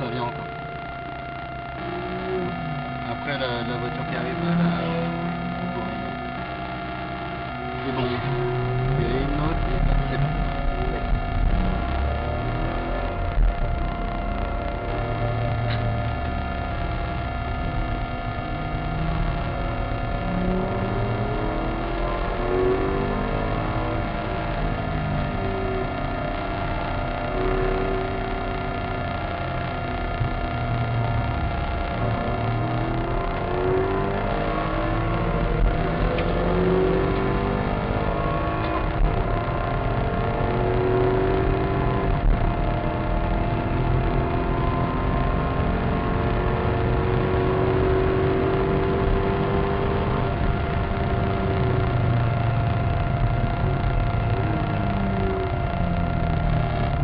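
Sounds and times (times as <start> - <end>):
car engine revving from inside: 0.0 - 57.0
road noise: 0.0 - 57.0.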